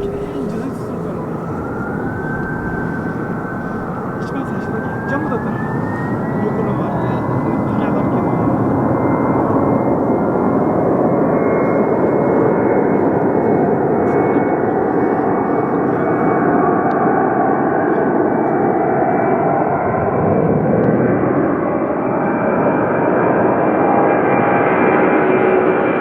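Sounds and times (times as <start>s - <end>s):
thin high engine whine: 0.0s - 25.6s
jet engines roaring: 0.0s - 26.0s.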